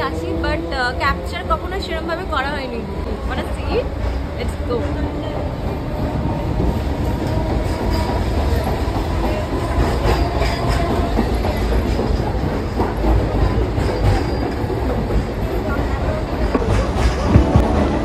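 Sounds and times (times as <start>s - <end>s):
train carriage rumbling on rails: 0.0s - 18.0s.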